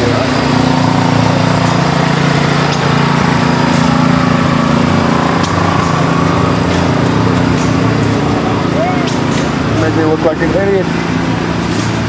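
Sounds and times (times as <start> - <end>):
small engine droning: 0.0 - 12.0.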